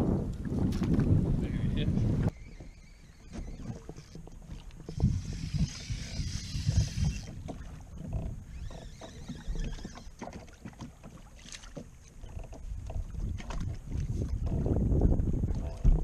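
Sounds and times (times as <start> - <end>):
water sloshing against kayak hull: 0.3 - 16.0.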